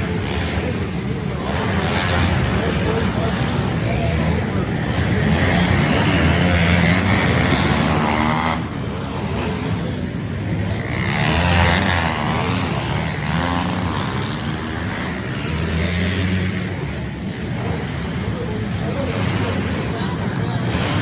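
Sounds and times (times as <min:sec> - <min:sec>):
pit bike engines revving: 0:00.0 - 0:21.0.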